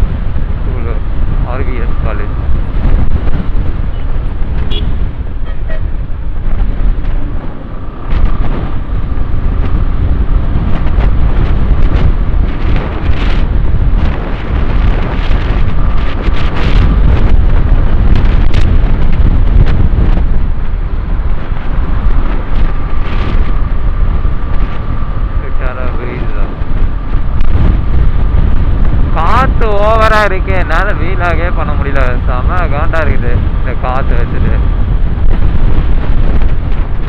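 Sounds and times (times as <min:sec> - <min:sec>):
motorbike whine: 0:00.0 - 0:37.0
wind buffeting microphone: 0:00.0 - 0:37.0.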